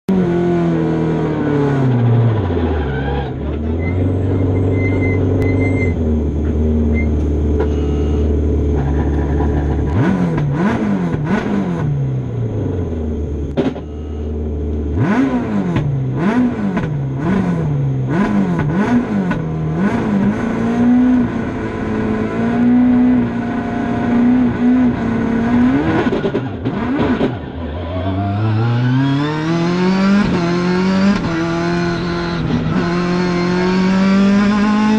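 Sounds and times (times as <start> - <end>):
rally car engine revving: 0.1 - 34.9.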